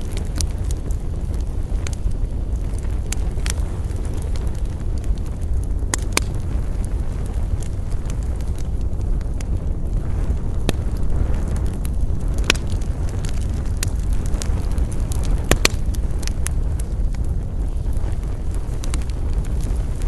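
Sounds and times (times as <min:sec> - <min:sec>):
campfire crackling and popping: 0:00.0 - 0:20.0
low steady rumble: 0:00.0 - 0:20.0.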